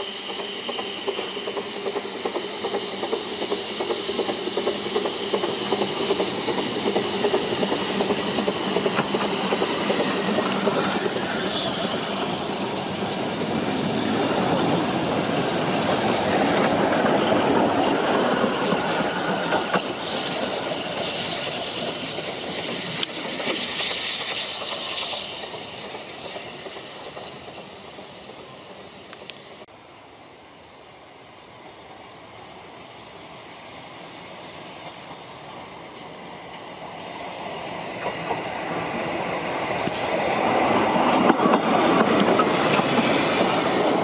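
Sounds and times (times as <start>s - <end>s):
steam hissing: 0.0s - 29.7s, 31.4s - 44.0s
steam locomotive passing: 0.0s - 44.0s.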